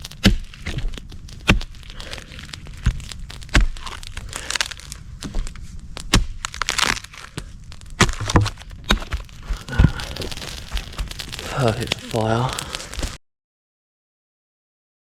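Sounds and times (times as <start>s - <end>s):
dry sticks snapping: 0.0s - 13.2s
rustling and crinkling: 0.0s - 13.2s.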